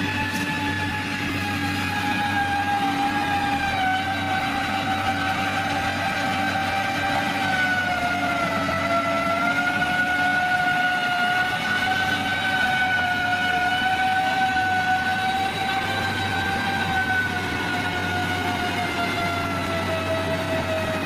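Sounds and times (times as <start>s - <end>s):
heavy construction machinery whining: 0.0s - 21.0s.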